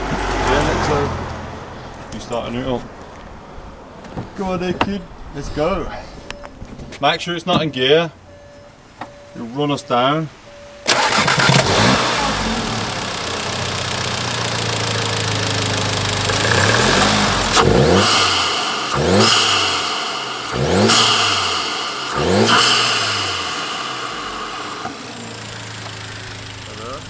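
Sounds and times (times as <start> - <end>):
car engine idling and revving: 0.0 - 5.6, 7.6 - 27.0.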